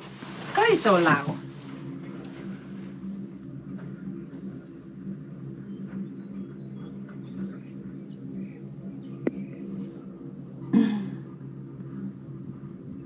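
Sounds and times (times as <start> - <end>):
cable car gondola hum: 0.0 - 13.0
high-pitched insect chorus: 0.0 - 13.0.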